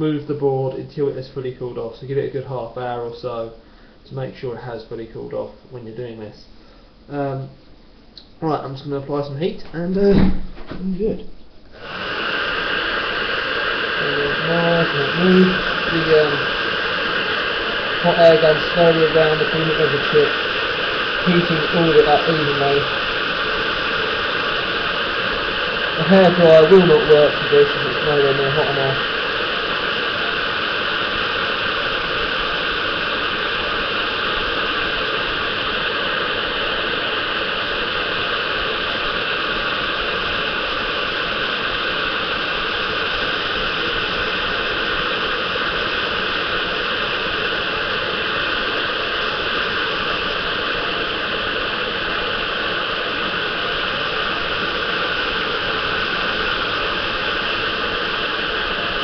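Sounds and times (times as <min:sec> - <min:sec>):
hot air gun hissing: 0:09.9 - 0:59.0.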